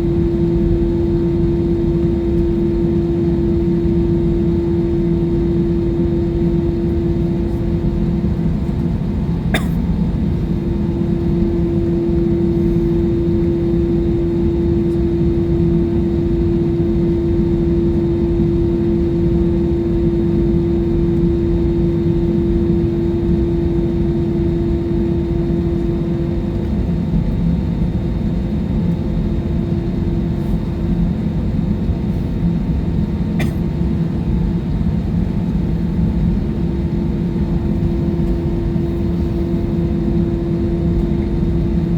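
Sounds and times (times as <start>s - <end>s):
steady hum: 0.0s - 28.0s, 35.2s - 41.9s
jet engine roar in cabin: 0.0s - 41.9s.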